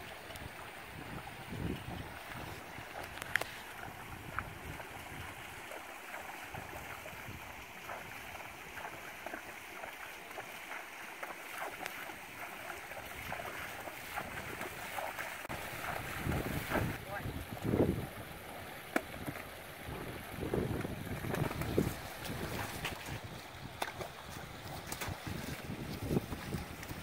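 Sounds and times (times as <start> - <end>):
hooves splashing in water: 0.0 - 27.0
rushing river water: 0.0 - 27.0.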